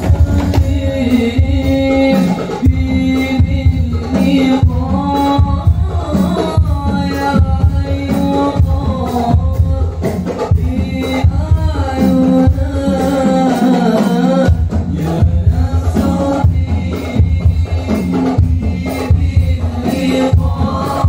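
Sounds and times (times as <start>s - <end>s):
young men singing devotional songs: 0.0s - 21.0s.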